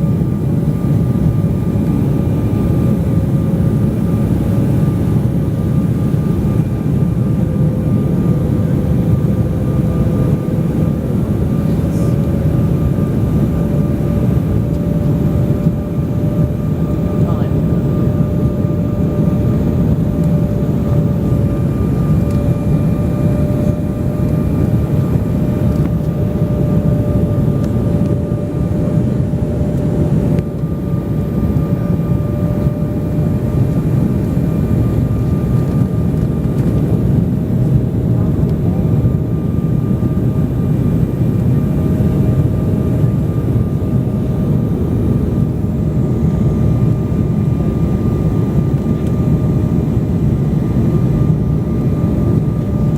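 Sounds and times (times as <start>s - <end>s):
airliner cabin engine rush: 0.0s - 52.9s
constant droning tone: 0.0s - 52.9s.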